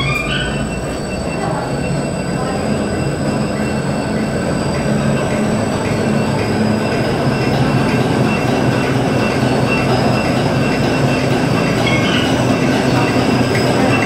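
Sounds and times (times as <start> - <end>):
machine clatter with high whines: 0.0 - 14.0.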